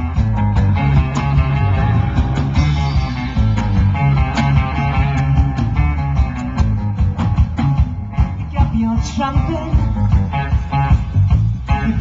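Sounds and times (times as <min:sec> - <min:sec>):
bass guitar: 0:00.0 - 0:12.0
drum kit: 0:00.0 - 0:12.0
electric guitar: 0:00.0 - 0:12.0.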